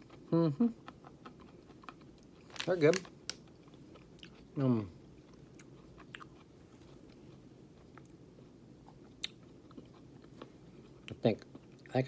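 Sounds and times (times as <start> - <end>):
faint chewing of crunchy cookie: 0.0 - 12.0.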